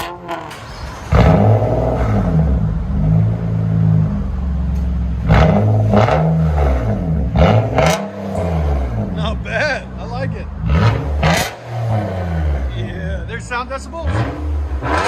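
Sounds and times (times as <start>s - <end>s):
car exhaust revving hard: 0.0s - 15.0s.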